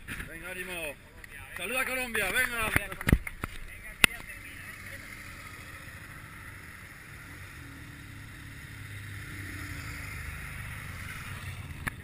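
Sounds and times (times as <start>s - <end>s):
road noise: 0.0s - 12.0s
low engine rumble: 2.0s - 12.0s.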